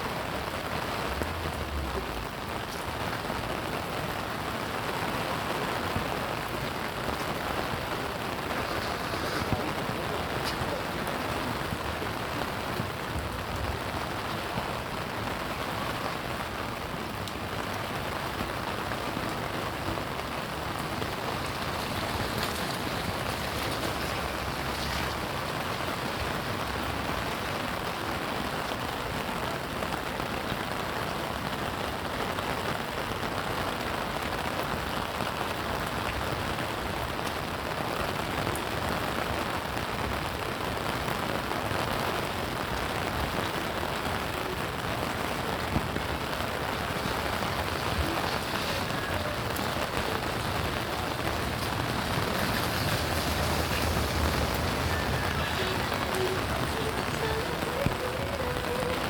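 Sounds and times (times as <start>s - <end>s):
rain pattering: 0.0s - 59.0s
raindrops ticking close by: 0.0s - 59.0s.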